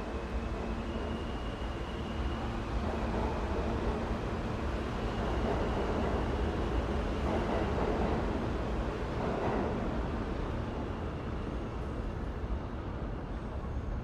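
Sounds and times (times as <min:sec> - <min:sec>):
rail traffic rumble: 0:00.0 - 0:14.0.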